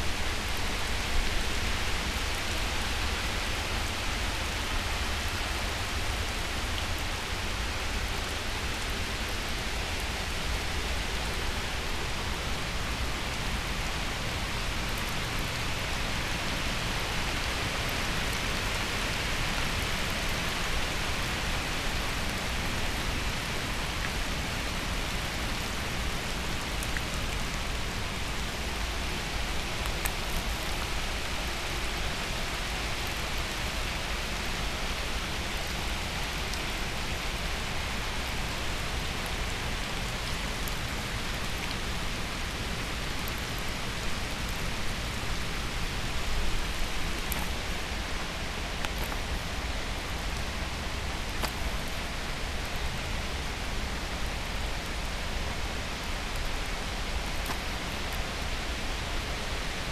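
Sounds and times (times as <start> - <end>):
heavy rain hiss: 0.0 - 59.9
faint raindrop ticks: 0.1 - 59.0.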